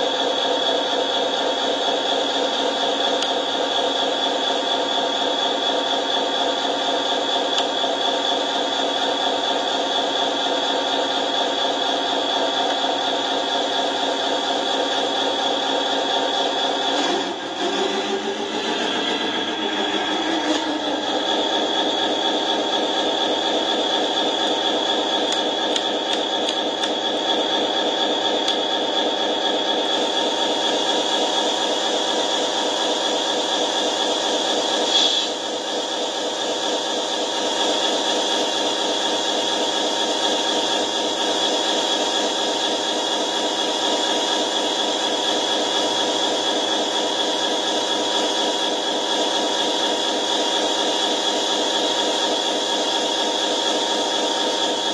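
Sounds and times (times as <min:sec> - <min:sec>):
model truck motor hum with rattle: 0:00.0 - 0:54.9.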